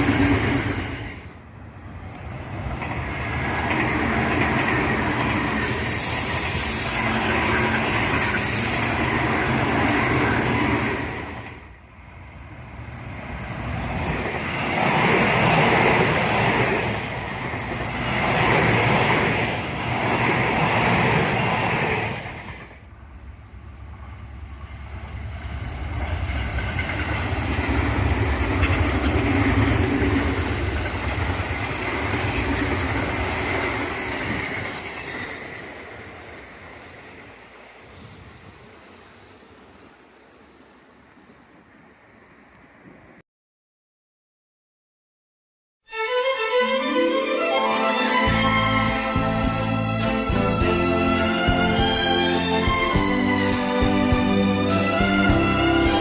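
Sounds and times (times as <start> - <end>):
electric trains passing: 0.0 - 43.2, 46.2 - 56.0.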